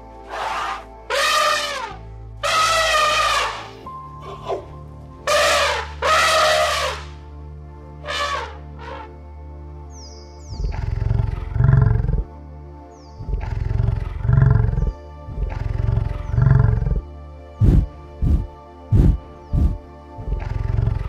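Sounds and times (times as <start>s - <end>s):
background music: 0.0s - 21.0s
yak grunting: 0.2s - 7.2s, 8.0s - 9.1s, 10.6s - 12.3s, 13.2s - 21.0s.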